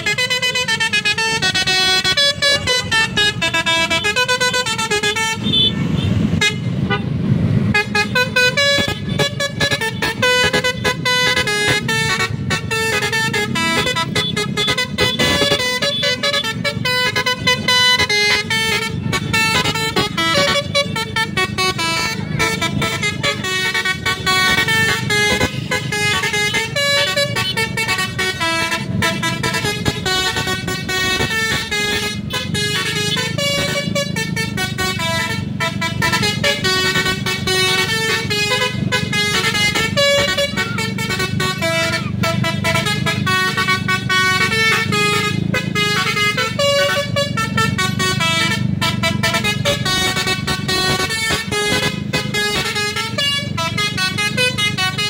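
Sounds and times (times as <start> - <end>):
multi-tone bus horn melodies: 0.0 - 55.0.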